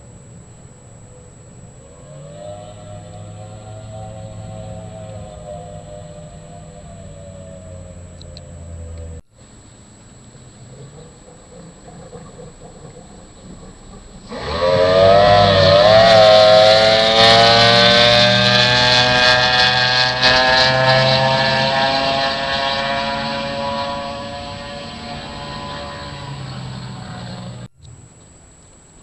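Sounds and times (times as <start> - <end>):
outboard motor accelerating: 0.0 - 9.3, 10.2 - 28.0.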